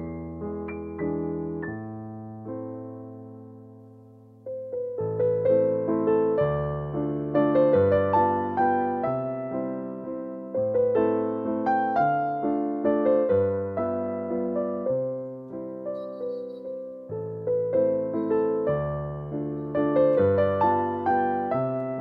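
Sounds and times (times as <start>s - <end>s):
piano melody: 0.0s - 22.0s.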